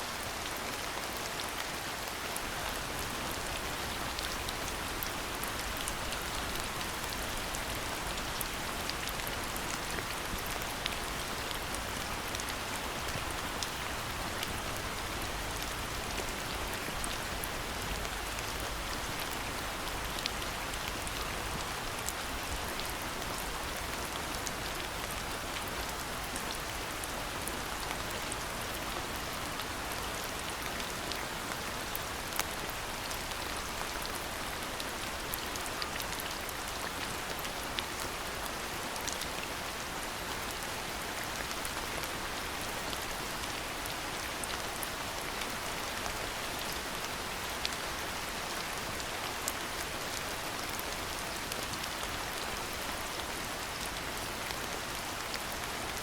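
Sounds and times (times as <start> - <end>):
rain drops pattering: 0.0 - 56.0.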